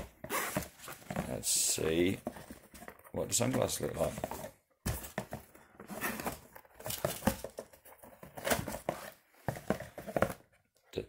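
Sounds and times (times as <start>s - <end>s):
case rustling and knocking: 0.0s - 10.6s.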